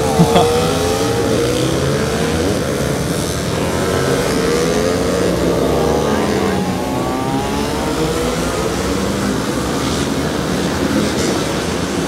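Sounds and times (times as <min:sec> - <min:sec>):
racing motorcycle engines revving: 0:00.0 - 0:12.0.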